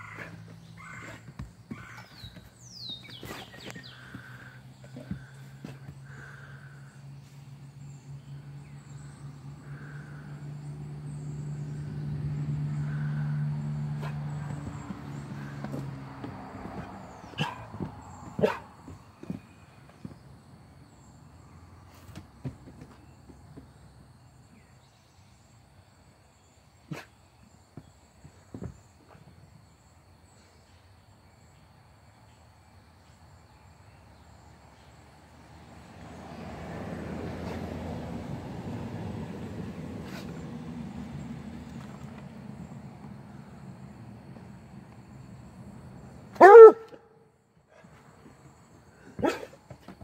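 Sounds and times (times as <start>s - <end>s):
insects chirping: 0.0s - 50.0s.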